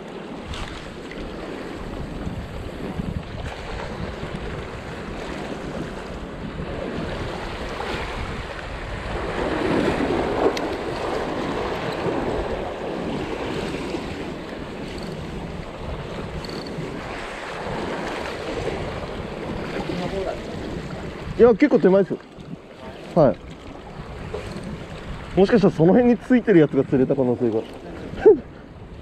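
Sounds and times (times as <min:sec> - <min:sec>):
waves splashing against concrete: 0:00.0 - 0:29.0
wind buffeting microphone: 0:00.0 - 0:29.0.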